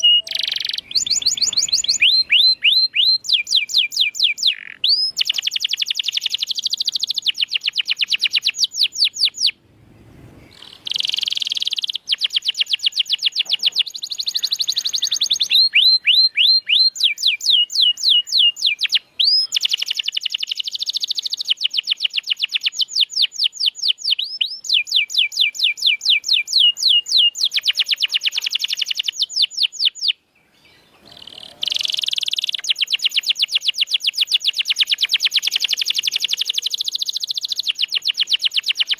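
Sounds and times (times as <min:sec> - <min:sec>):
canary singing trills: 0:00.0 - 0:09.6, 0:10.4 - 0:38.9.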